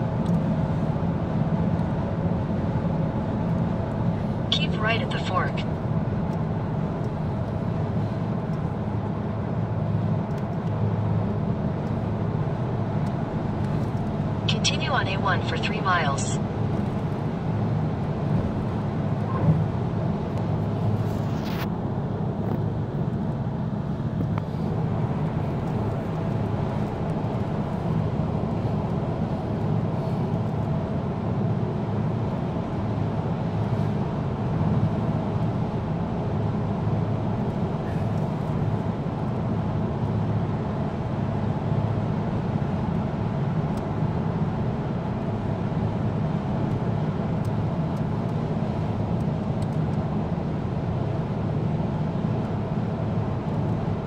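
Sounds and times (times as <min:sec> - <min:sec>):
car road and engine drone: 0:00.0 - 0:54.0.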